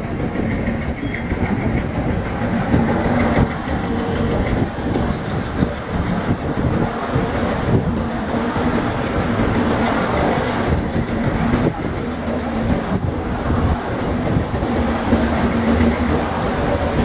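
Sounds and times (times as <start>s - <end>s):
train wheels rumbling on rails: 0.0s - 17.0s
wheels clacking on rail joints: 0.0s - 17.0s.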